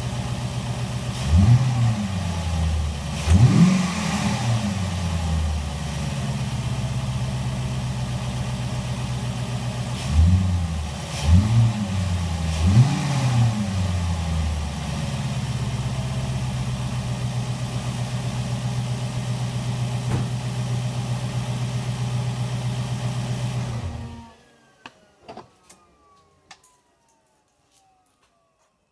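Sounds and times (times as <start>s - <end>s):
car engine idling and revving: 0.0s - 25.2s.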